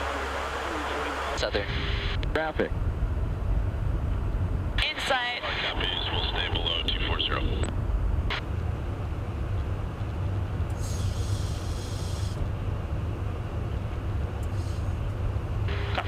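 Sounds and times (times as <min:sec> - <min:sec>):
aircraft cabin drone: 0:00.0 - 0:16.0.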